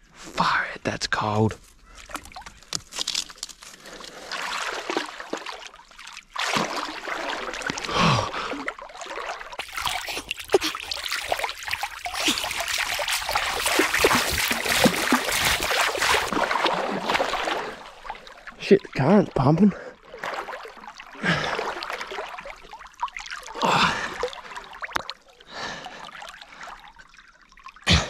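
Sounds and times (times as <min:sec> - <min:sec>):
water splashing around a swimmer: 0:03.8 - 0:28.0.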